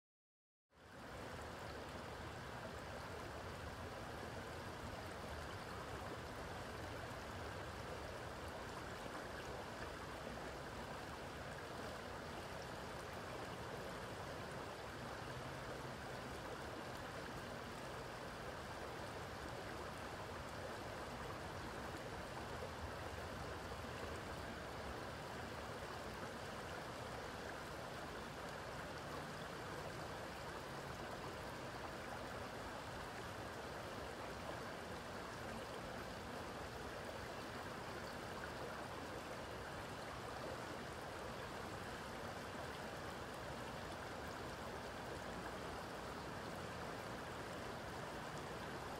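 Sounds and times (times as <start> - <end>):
stream flowing: 0.7 - 48.9.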